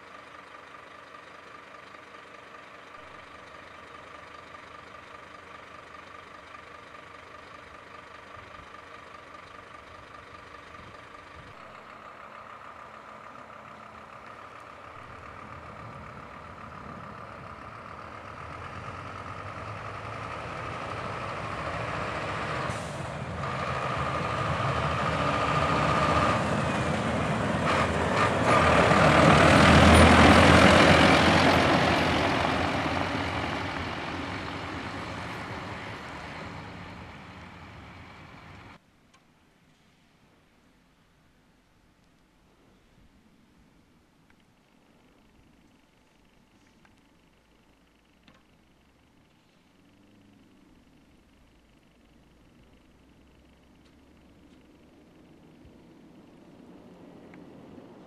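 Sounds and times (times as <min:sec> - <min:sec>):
diesel truck engine: 0:00.0 - 0:38.8, 0:43.8 - 0:58.0.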